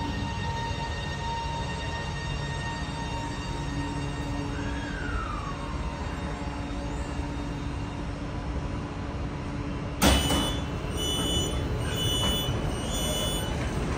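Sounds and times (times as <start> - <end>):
electric train rumbling: 0.0 - 13.9.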